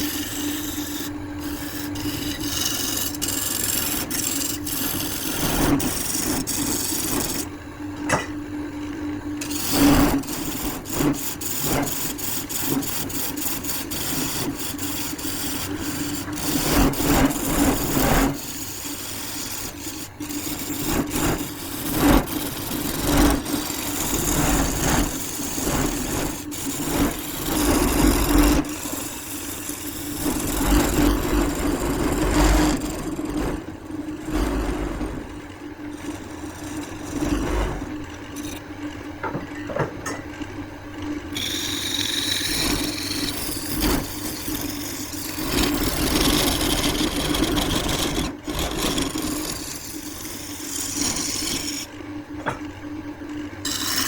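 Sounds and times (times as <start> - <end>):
wood lathe humming: 0.0 - 39.4, 40.8 - 52.6, 53.6 - 54.0
tool scraping spinning wood: 0.0 - 40.2, 41.0 - 52.8, 53.6 - 54.0.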